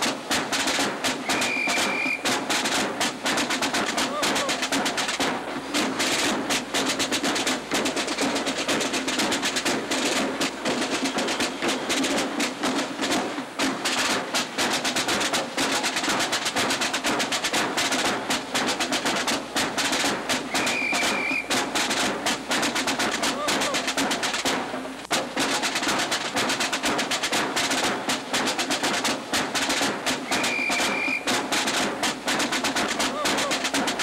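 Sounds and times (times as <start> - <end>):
rapid drum roll: 0.0 - 34.0.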